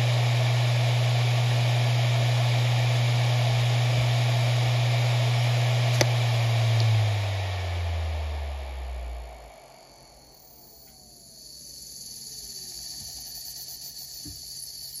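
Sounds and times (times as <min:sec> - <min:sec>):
hard drive spinning down: 0:00.0 - 0:15.0.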